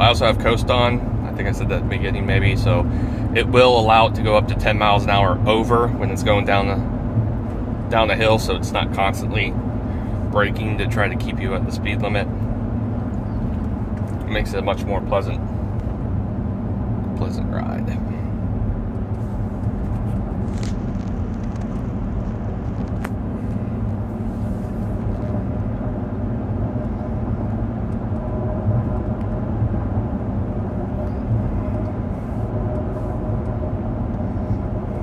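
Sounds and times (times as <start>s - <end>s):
car cabin road noise: 0.0s - 35.0s.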